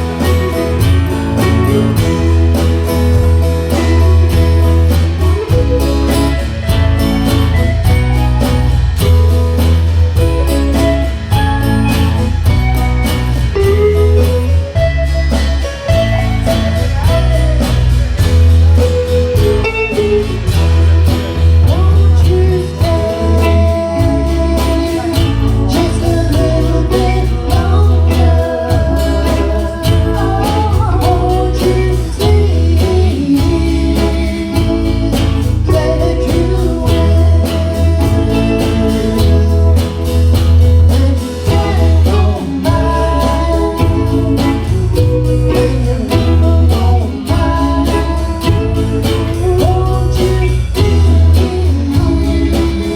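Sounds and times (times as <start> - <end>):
bass line: 0.0 - 52.9
guitar: 0.0 - 52.9
person singing: 0.0 - 52.9
steady drum beat: 0.0 - 52.9.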